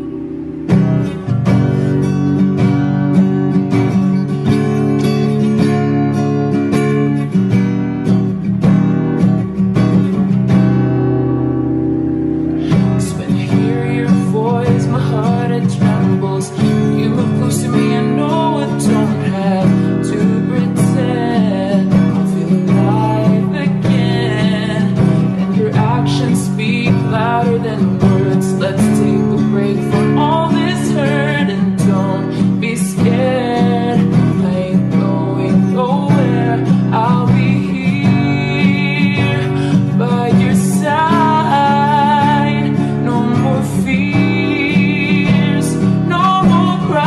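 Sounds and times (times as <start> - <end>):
pop song music: 0.0 - 47.0.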